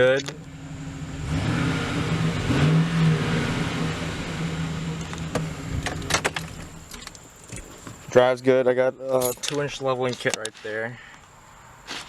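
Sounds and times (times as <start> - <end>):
truck engine hum from cab: 0.0 - 10.4.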